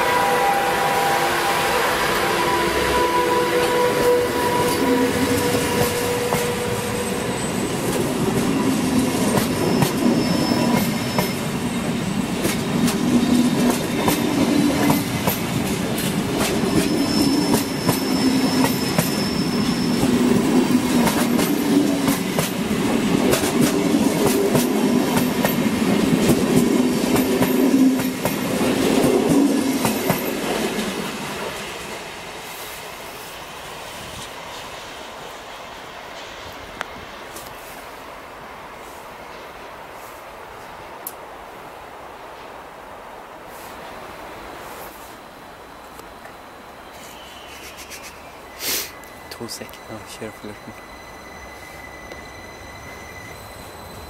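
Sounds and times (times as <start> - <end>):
passenger train rumbling past: 0.0 - 54.0.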